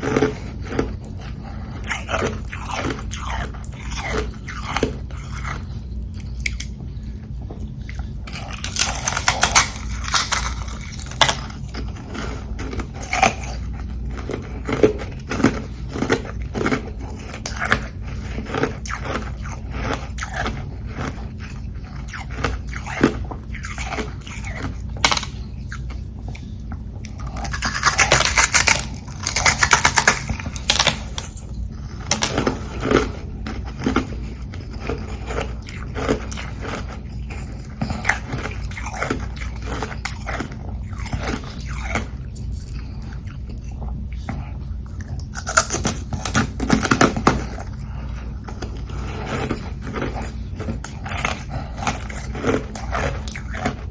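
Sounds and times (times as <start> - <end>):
chewing crunchy ice: 0.0 - 53.9.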